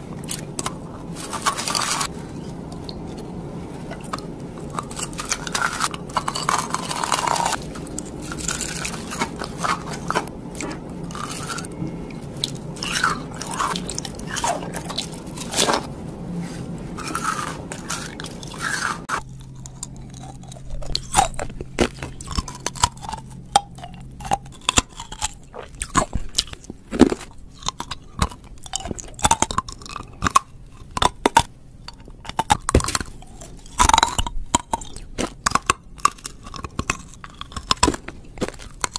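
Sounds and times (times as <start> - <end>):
crunching hard candy: 0.0 - 3.2, 4.0 - 15.9, 17.0 - 38.9.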